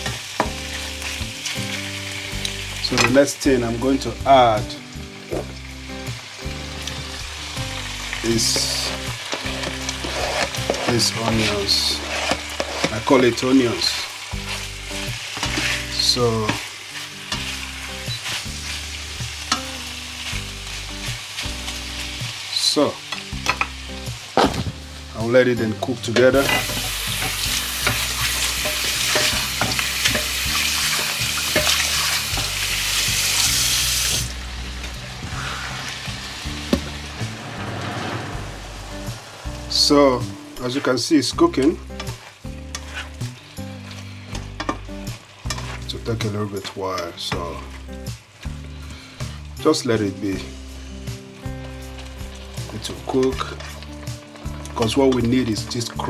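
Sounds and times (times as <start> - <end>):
stirring in a pan: 0.0 - 3.2, 6.6 - 49.6, 50.4 - 56.0
chicken sizzling in a pan: 0.0 - 56.0.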